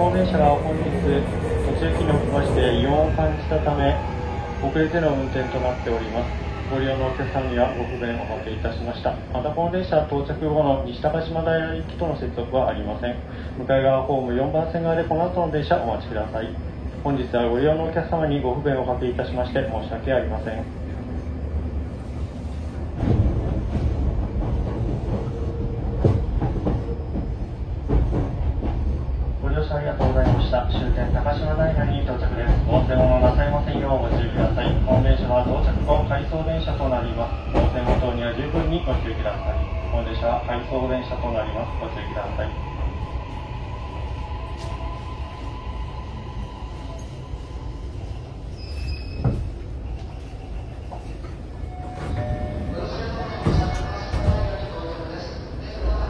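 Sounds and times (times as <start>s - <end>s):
train wheels rumbling on rail: 0.0s - 13.6s, 14.5s - 54.8s.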